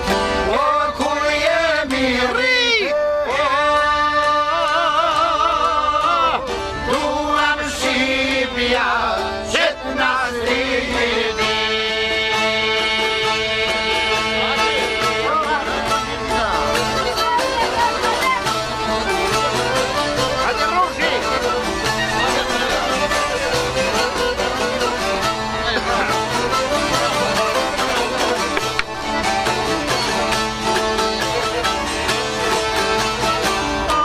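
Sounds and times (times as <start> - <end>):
folk ensemble playing: 0.0 - 34.0.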